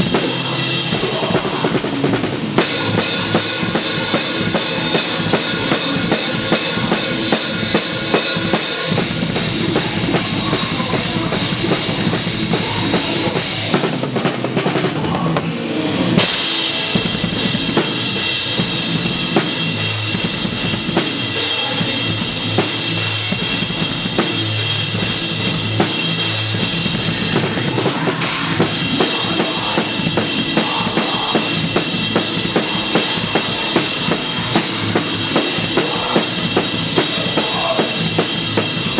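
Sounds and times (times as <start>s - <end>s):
bass drum: 0.0s - 13.9s, 16.2s - 38.9s
live band playing: 0.0s - 14.9s, 15.5s - 38.9s.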